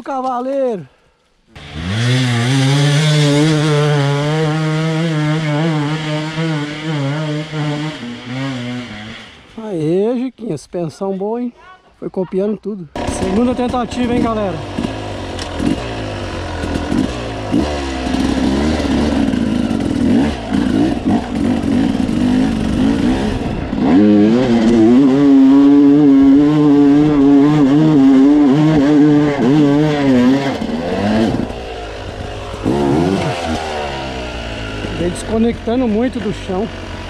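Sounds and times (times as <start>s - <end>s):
dirt bike engine revving: 1.5s - 9.7s, 13.0s - 37.0s.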